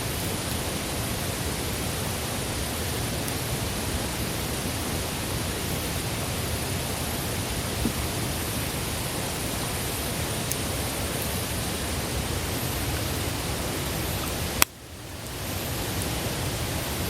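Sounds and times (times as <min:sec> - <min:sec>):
campfire hissing and rumbling: 0:00.0 - 0:17.0
fire crackles and pops: 0:00.1 - 0:17.0.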